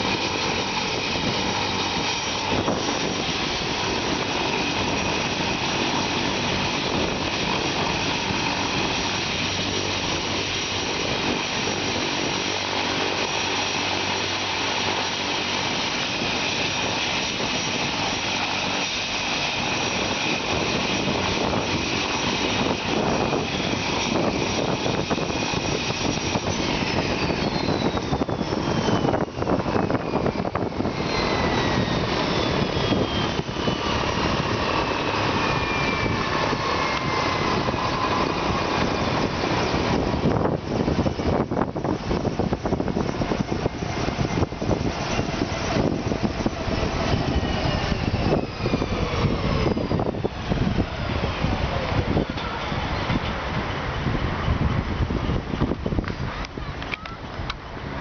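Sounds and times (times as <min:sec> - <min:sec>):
helicopter turbine and rotor: 0:00.0 - 0:58.0
high turbine whine: 0:00.0 - 0:58.0.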